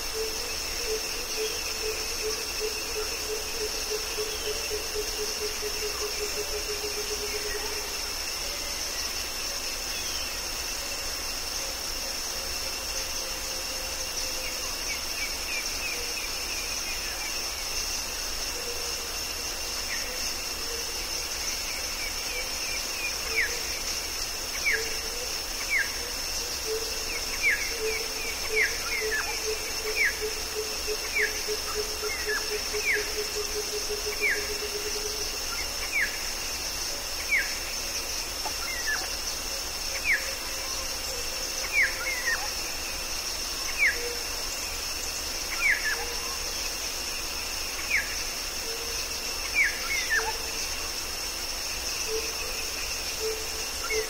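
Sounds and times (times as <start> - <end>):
cicadas and crickets droning: 0.0 - 54.0.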